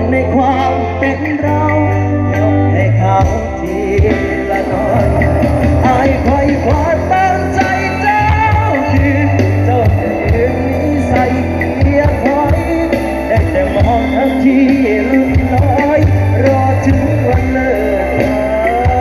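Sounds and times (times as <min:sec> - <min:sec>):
pop song with heavy bass: 0:00.0 - 0:19.0.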